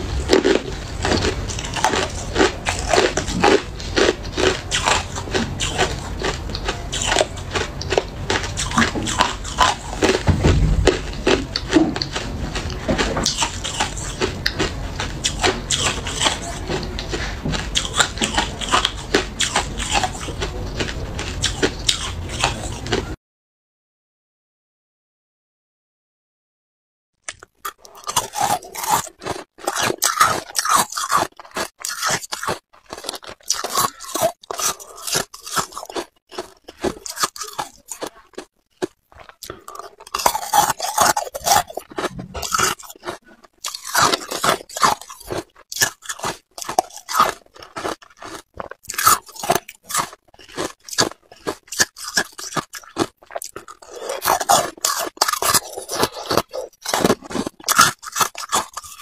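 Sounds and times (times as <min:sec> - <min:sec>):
ice crunching being chewed: 0:00.0 - 0:23.2, 0:27.2 - 0:59.0.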